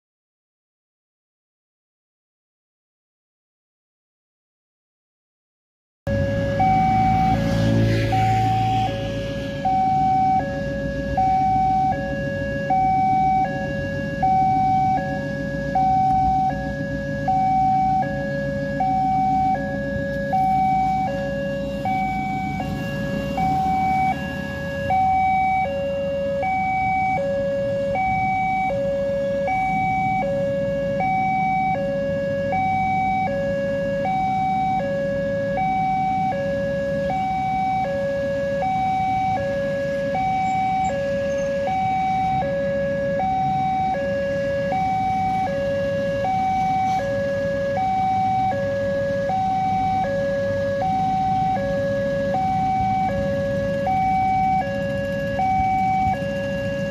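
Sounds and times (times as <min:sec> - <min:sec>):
low rumble of road traffic: 0:06.1 - 0:56.9
two-tone level crossing alarm: 0:06.1 - 0:56.9.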